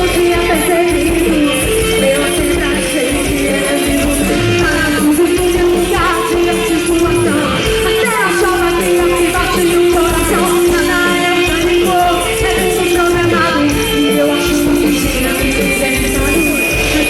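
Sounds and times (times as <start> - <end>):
live rock band playing: 0.0 - 17.0
person singing: 0.0 - 17.0.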